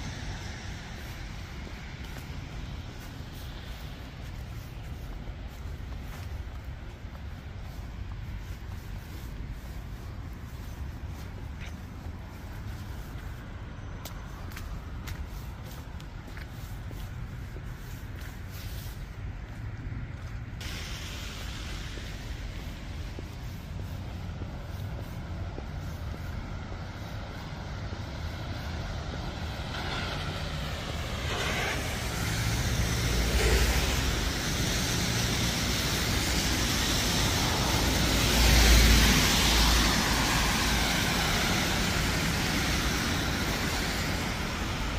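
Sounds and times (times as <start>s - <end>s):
tyre hiss on snow: 0.0s - 13.5s, 15.1s - 44.9s
road traffic passing: 0.0s - 44.9s.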